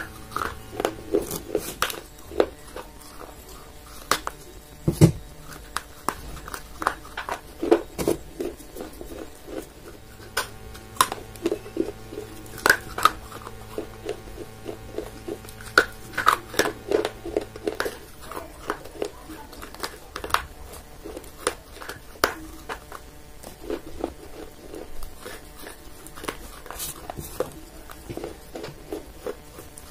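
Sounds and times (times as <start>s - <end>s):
clay pottery being chewed: 0.0s - 29.9s.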